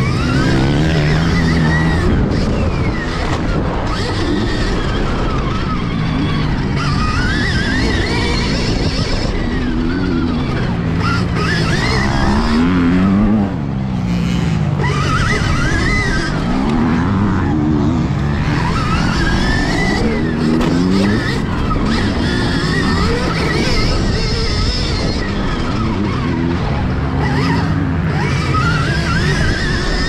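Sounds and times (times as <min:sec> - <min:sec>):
electric motor whining: 0:00.0 - 0:30.0
wind and tyre noise: 0:00.0 - 0:30.0.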